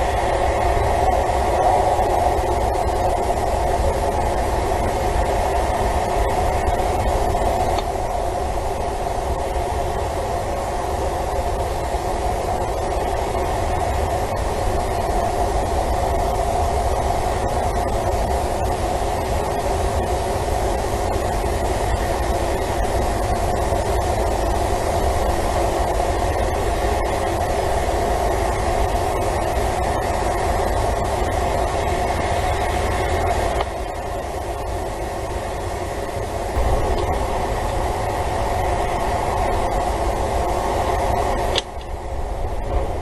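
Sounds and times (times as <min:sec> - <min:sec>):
constant hum: 0:00.0 - 0:43.0
mechanical rumble: 0:00.0 - 0:43.0.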